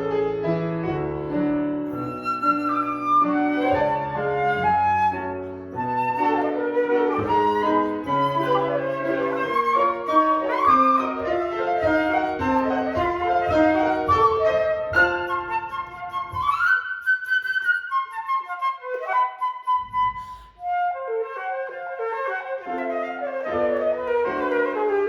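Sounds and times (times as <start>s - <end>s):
piano accompaniment: 0.0s - 25.0s
flute playing classical melody: 1.2s - 25.0s.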